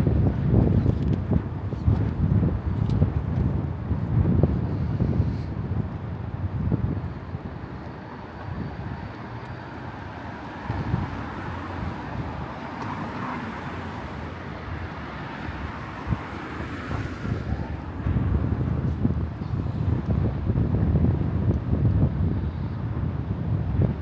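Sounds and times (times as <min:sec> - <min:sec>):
traffic noise: 0:00.0 - 0:24.0
wind buffeting microphone: 0:00.0 - 0:24.0.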